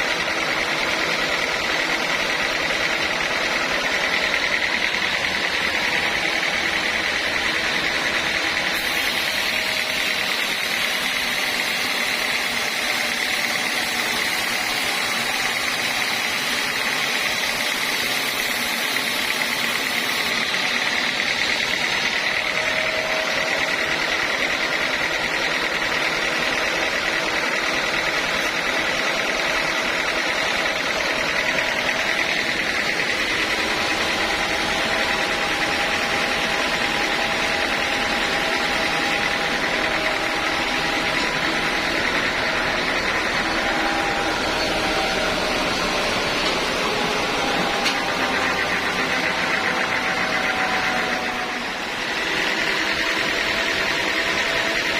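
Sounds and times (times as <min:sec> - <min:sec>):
sawmill machine noise: 0:00.0 - 0:54.9
steady high-pitched tone: 0:00.0 - 0:54.9.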